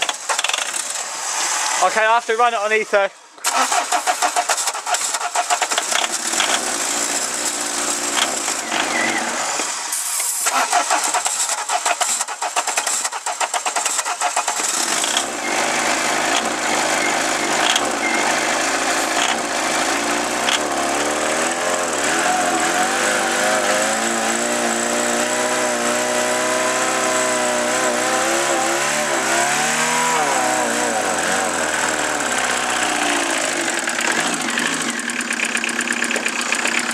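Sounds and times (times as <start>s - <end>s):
diesel engine starting and idling: 3.4s - 36.9s.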